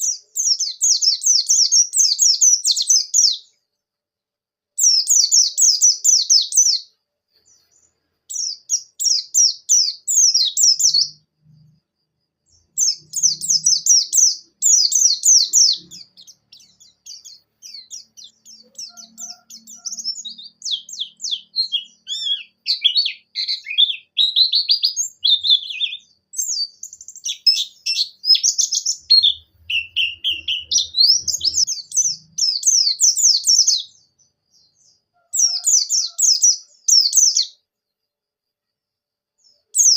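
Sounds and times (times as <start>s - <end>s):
bird twittering song: 0.0s - 3.9s, 4.8s - 37.6s, 39.4s - 39.9s.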